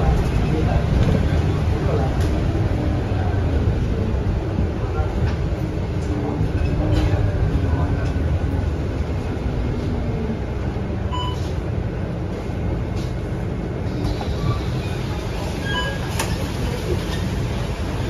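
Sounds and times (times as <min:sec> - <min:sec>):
bus engine and tyres rumbling: 0:00.0 - 0:18.0.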